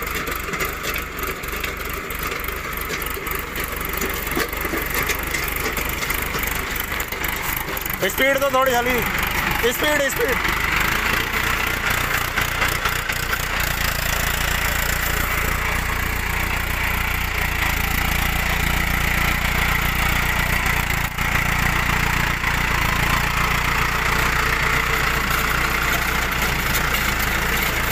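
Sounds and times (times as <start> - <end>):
earth auger boring into soil: 0.0 - 27.9
tractor engine running: 0.0 - 27.9.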